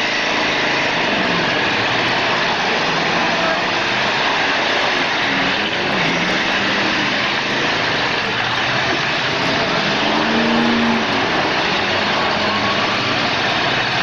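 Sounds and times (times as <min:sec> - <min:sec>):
car engines revving: 0:00.0 - 0:14.0
engines and spinning tyres: 0:00.0 - 0:14.0.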